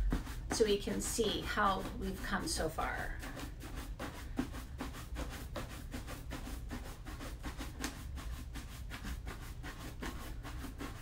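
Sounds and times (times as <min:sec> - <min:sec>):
shoe brush rubbing leather: 0:00.0 - 0:11.0.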